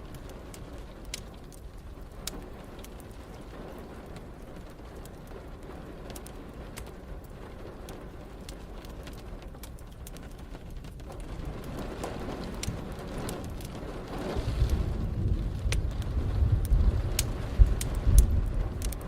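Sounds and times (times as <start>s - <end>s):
rain hiss: 0.0s - 19.0s
wood fire crackling: 0.0s - 19.0s.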